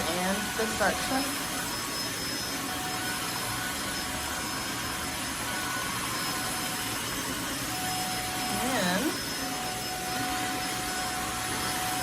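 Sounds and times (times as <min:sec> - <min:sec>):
floor cleaner motor whining: 0:00.0 - 0:12.0.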